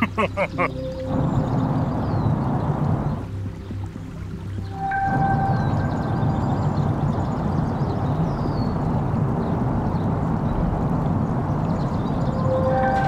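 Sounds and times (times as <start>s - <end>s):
muffled underwater rumble: 0.0s - 13.0s.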